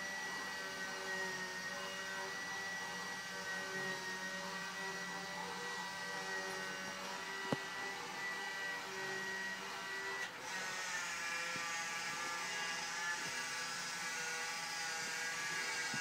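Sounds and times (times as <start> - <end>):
model gondola motor whirring: 0.0 - 16.0.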